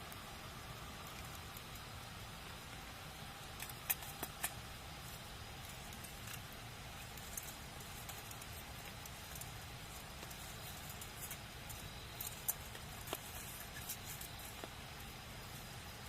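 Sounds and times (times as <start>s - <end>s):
campfire hissing: 0.0s - 16.0s
fire crackles and pops: 0.0s - 16.0s.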